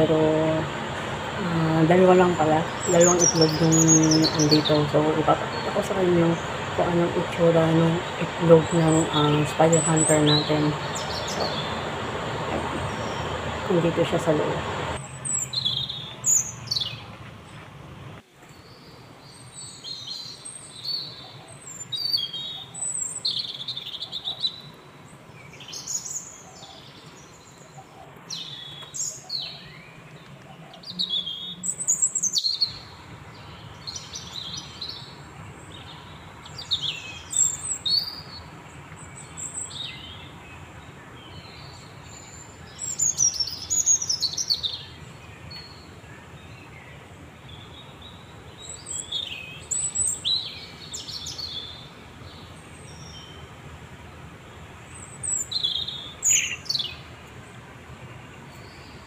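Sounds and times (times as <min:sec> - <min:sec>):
small birds chirping: 0:00.0 - 0:17.8, 0:18.4 - 0:59.0.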